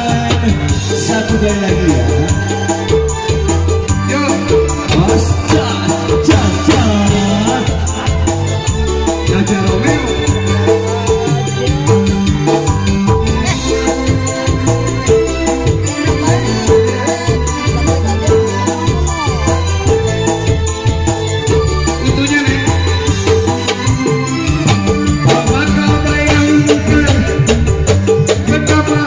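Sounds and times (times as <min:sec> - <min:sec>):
electronic keyboard: 0:00.0 - 0:29.0
hand drums: 0:00.0 - 0:29.0
person singing: 0:00.0 - 0:29.0.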